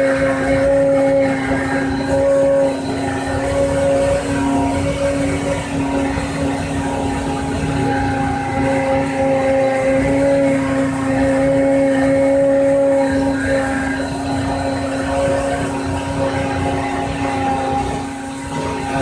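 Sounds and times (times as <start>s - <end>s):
cnc spindle motor running: 0.0s - 19.0s.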